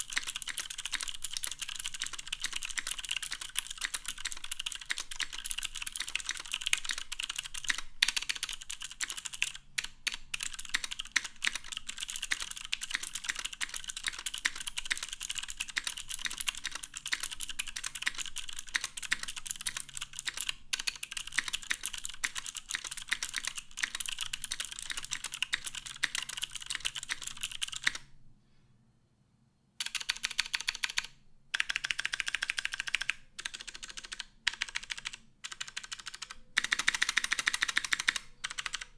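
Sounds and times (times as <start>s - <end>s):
fast typing on mechanical keyboard: 0.0s - 28.1s, 29.8s - 38.9s.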